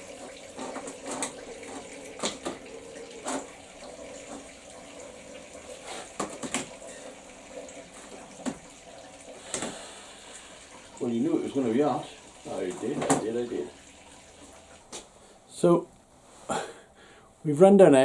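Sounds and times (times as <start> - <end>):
water running and splashing: 0.0 - 15.3.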